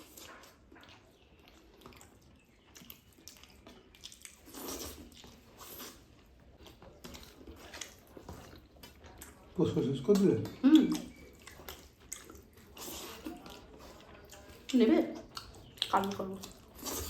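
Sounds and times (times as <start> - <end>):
small wet smacks and clicks: 0.0 - 5.4, 6.5 - 16.8
chewing: 0.0 - 17.0.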